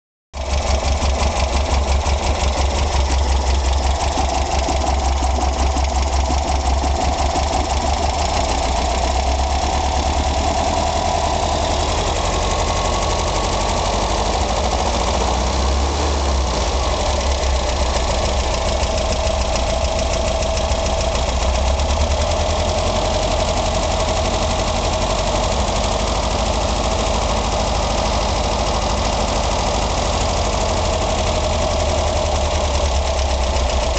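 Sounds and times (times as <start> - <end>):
car engine running: 0.4 - 33.9
rapid engine knocking: 0.4 - 33.9.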